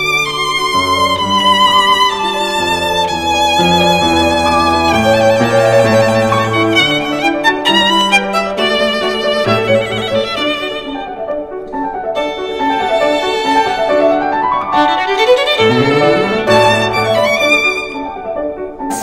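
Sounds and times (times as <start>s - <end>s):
string and keyboard accompaniment: 0.0s - 19.0s
violin melody: 0.0s - 19.0s.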